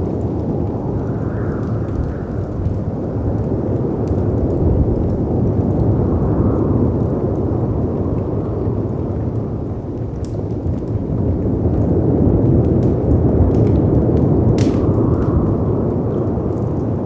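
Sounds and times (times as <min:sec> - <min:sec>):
wind rumble: 0:00.0 - 0:17.0
wood fire crackles: 0:00.0 - 0:17.0.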